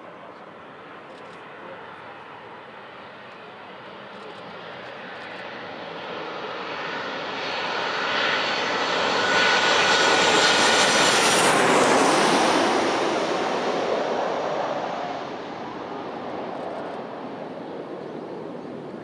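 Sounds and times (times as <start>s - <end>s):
airliner passing overhead: 0.0s - 19.0s.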